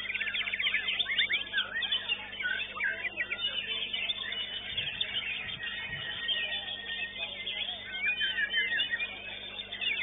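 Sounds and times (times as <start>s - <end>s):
songbird whistling and trilling: 0.0s - 10.0s.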